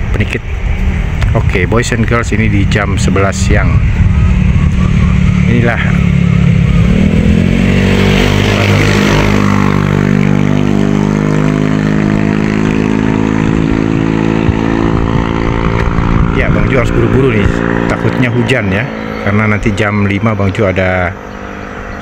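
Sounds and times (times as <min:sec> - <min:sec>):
motorcycle engine pulling away: 0:02.7 - 0:22.0.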